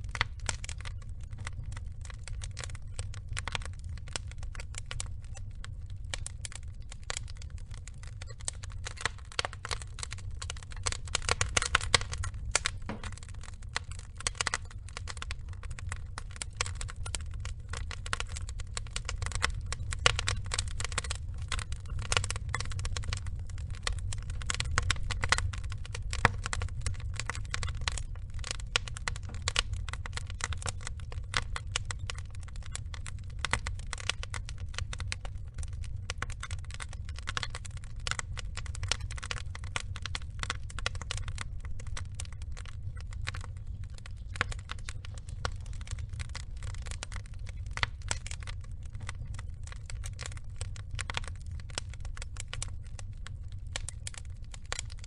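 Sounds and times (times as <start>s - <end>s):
low rumble of flames: 0.0s - 55.0s
wood logs crackling: 0.0s - 55.0s.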